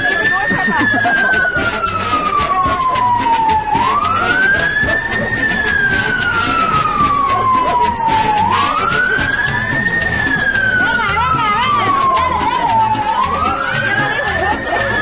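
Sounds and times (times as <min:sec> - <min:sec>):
siren wailing: 0:00.0 - 0:15.0
steady low beat: 0:00.0 - 0:15.0.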